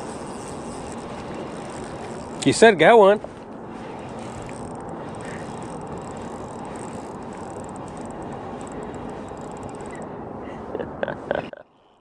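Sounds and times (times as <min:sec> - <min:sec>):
fishing reel winding whirr: 0:00.0 - 0:10.1.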